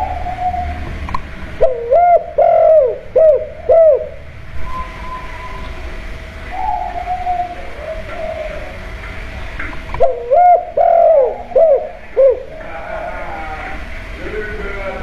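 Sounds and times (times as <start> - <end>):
dove cooing: 0.0 - 14.5.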